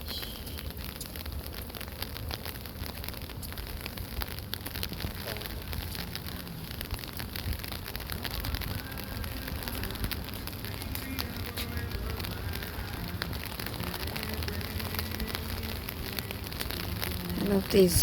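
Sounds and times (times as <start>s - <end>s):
low rumble of rain: 0.0s - 18.0s
rain drops ticking: 0.0s - 18.0s.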